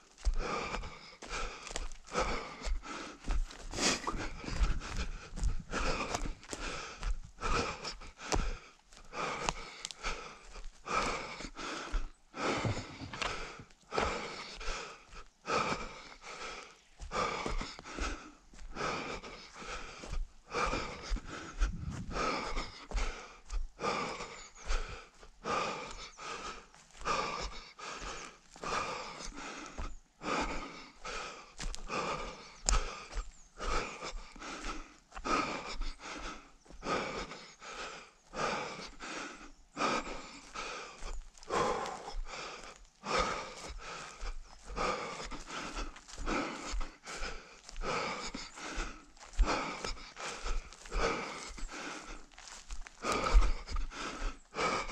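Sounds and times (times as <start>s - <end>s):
heavy rhythmic breathing: 0.0s - 54.9s.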